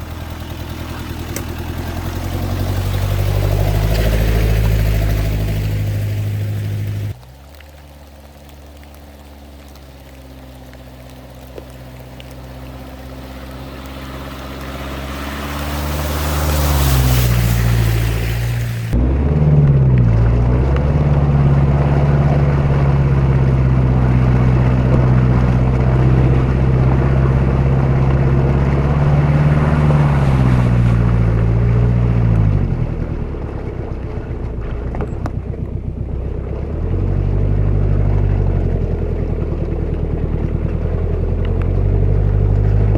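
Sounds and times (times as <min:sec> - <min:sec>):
diesel engine pulling under load: 0:00.0 - 0:42.9.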